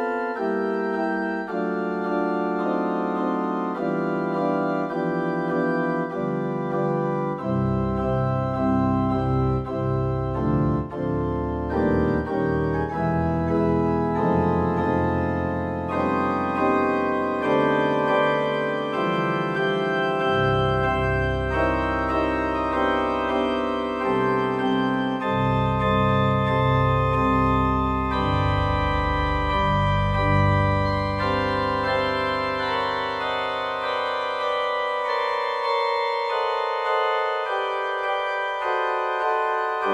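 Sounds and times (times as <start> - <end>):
electronic organ chords: 0.0 - 39.9.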